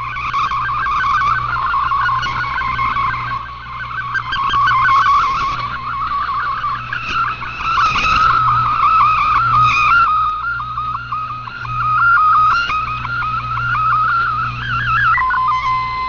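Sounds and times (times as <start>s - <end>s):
background radio hiss: 0.0s - 16.0s
low hum: 0.0s - 16.0s
warbling data signal tones: 0.0s - 16.0s.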